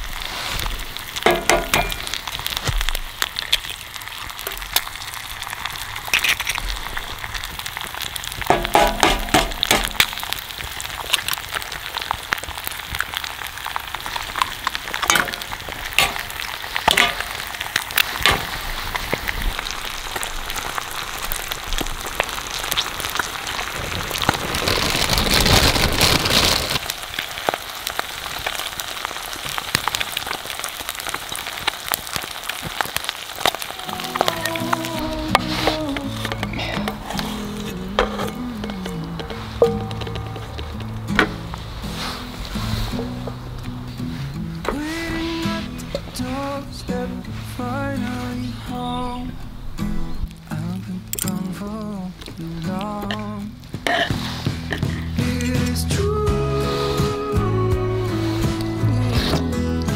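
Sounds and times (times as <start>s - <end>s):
bacon and eggs sizzling in a pan: 0.0s - 59.9s.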